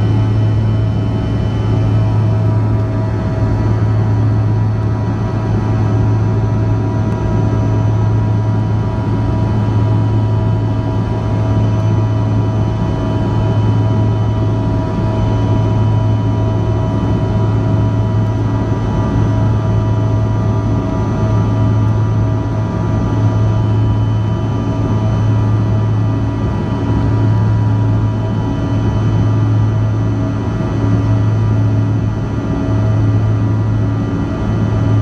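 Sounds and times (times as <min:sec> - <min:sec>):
jet cabin engine drone: 0:00.0 - 0:35.0.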